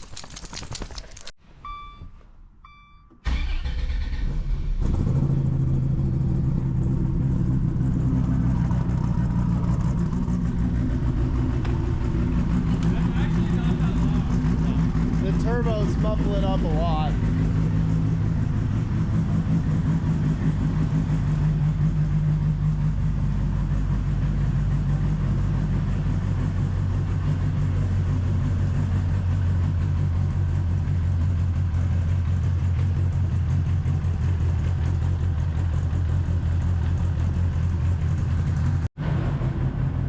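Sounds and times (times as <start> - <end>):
car engine idling: 3.1 - 40.0.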